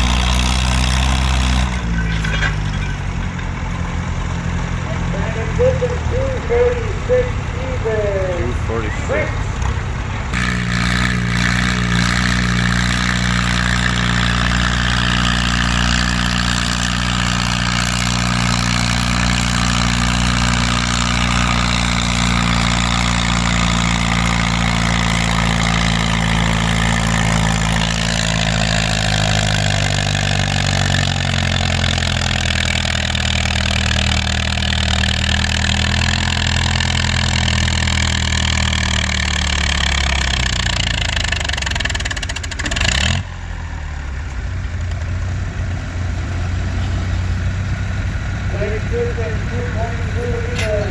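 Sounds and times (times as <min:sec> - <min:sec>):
tractor engine running hard: 0:00.0 - 0:50.9.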